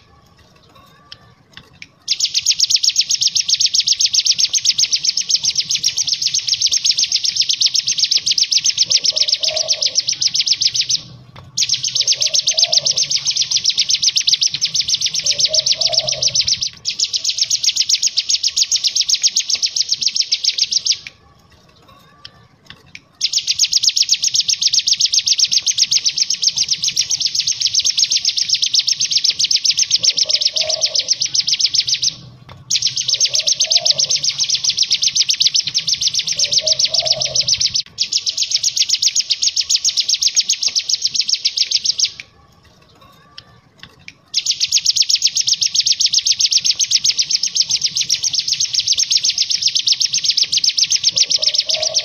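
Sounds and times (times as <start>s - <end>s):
bird singing a rapid trill: 0.0s - 21.2s, 23.1s - 42.2s, 44.2s - 52.0s.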